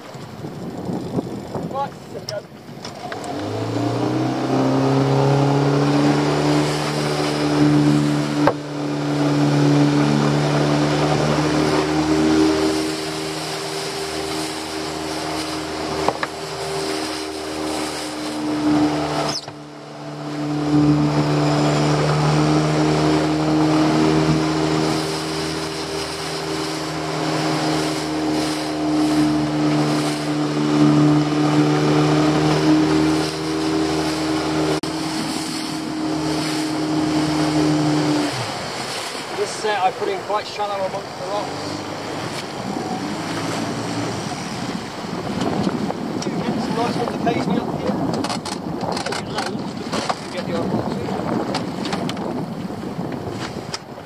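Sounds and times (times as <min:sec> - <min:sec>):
outboard motor running: 0:00.0 - 0:54.0
rushing boat wake: 0:00.0 - 0:54.0
wind: 0:00.0 - 0:54.0.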